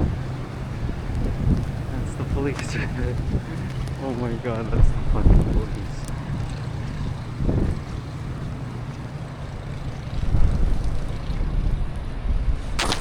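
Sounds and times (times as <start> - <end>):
vehicle engine humming: 0.0 - 13.0
wind buffeting microphone: 0.0 - 13.0.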